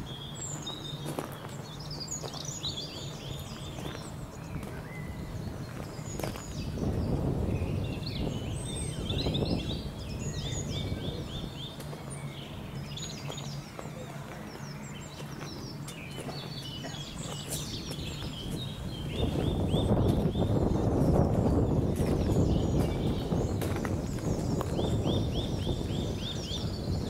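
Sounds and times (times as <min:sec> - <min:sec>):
low outdoor rumble: 0:00.0 - 0:27.0
songbirds chirping: 0:00.0 - 0:27.0
footsteps on gravel: 0:00.2 - 0:04.9, 0:05.5 - 0:07.0, 0:11.3 - 0:26.7.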